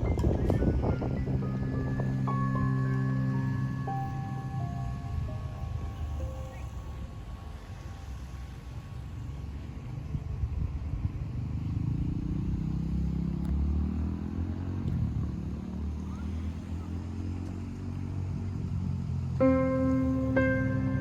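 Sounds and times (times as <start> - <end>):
motor vehicle passing by: 0.0 - 21.0.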